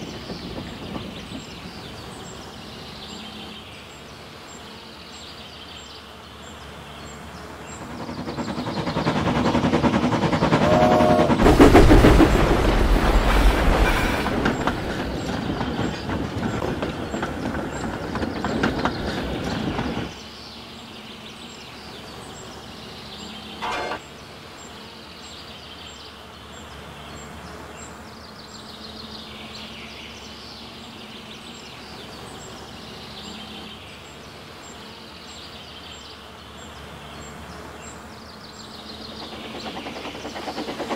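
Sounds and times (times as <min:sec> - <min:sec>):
train passing with wheel clatter: 0:00.0 - 0:40.9.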